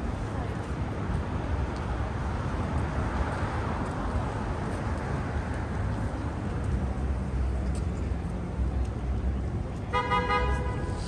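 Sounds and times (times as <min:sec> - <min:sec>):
general urban noise: 0:00.0 - 0:11.0
traffic rumble: 0:00.0 - 0:11.0.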